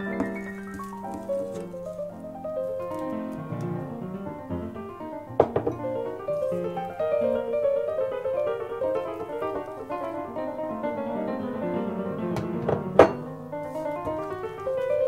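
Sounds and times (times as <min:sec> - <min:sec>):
background piano music: 0:00.0 - 0:15.0.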